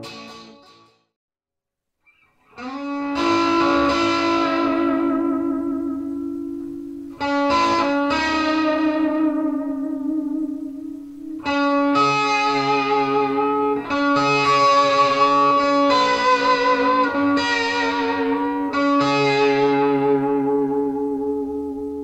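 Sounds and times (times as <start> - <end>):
electric guitar notes and chords: 0.0 - 1.0, 2.4 - 22.0.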